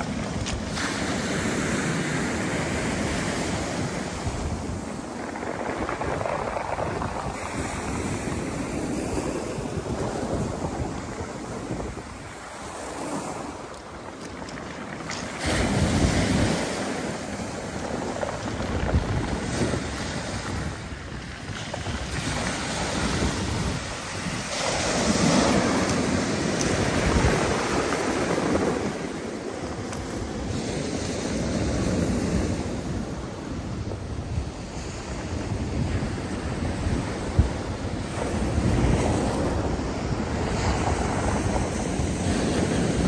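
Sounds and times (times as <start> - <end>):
surf breaking on pebble beach: 0.0 - 43.0
wind buffeting microphone: 0.0 - 43.0.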